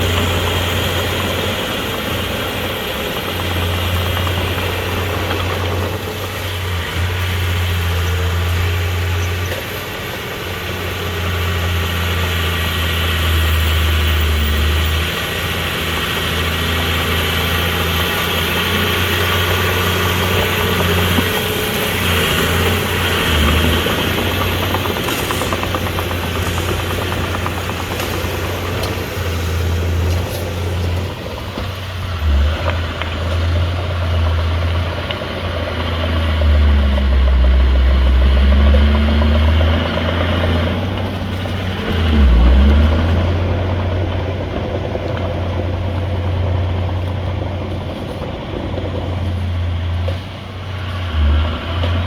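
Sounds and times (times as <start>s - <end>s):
bulldozer diesel engine drone: 0.0s - 52.0s.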